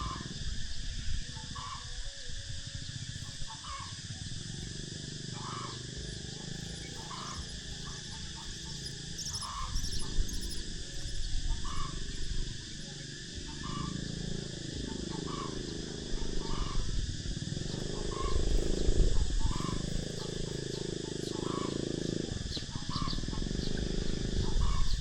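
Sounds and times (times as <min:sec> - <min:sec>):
high insect drone: 0:00.0 - 0:25.0
low rasping buzz: 0:00.0 - 0:25.0
nestling birds chirping: 0:02.9 - 0:25.0.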